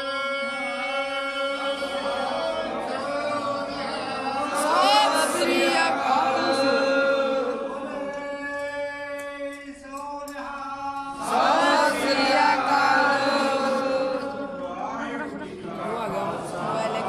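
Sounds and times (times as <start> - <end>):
man chanting: 0.0 - 5.4, 6.2 - 17.0
voices chanting together: 0.0 - 17.0.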